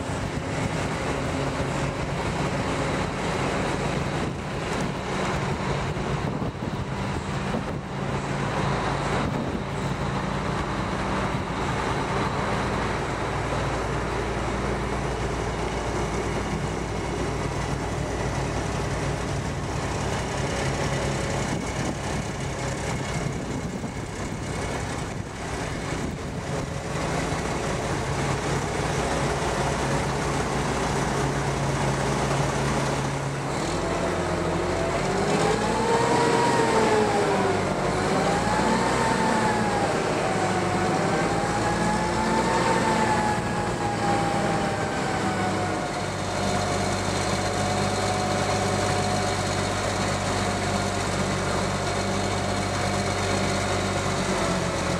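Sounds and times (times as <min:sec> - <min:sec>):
truck diesel engine droning: 0:00.0 - 0:54.9.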